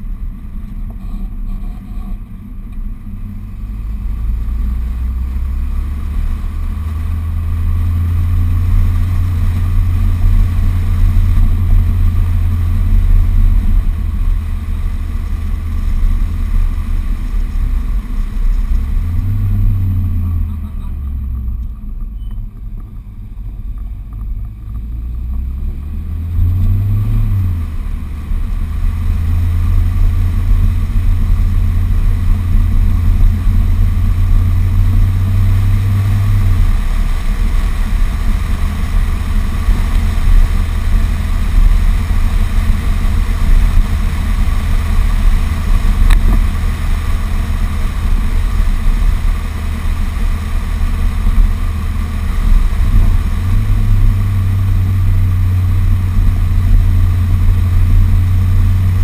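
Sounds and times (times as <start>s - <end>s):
car engine hum: 0.0s - 59.0s
wind and road noise: 0.0s - 59.0s.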